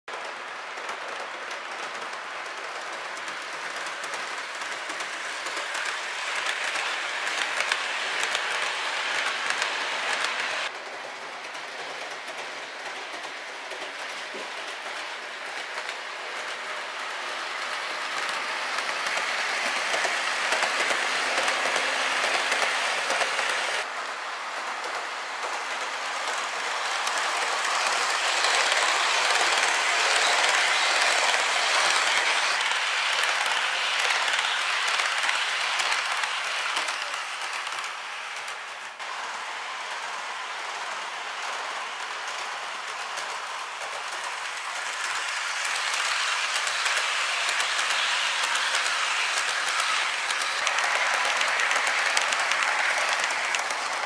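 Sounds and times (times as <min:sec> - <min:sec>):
model train wheels rumbling on rails: 0:00.1 - 0:54.0.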